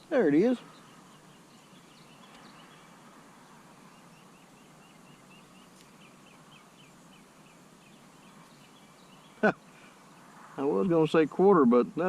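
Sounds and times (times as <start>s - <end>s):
bird chirping: 0.0s - 12.0s
soft steady hiss: 0.0s - 12.0s.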